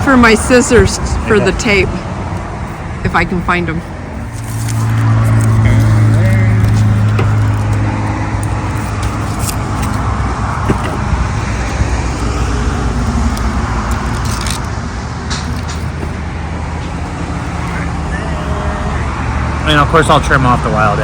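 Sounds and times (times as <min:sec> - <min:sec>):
road traffic hum: 0:00.0 - 0:21.0.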